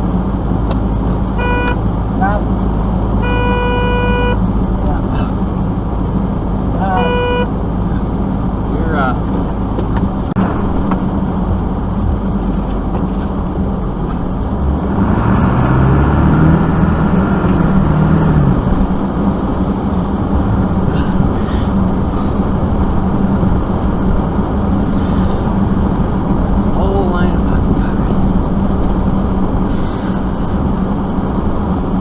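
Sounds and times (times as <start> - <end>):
vehicle engine running and revving: 0.0 - 32.0.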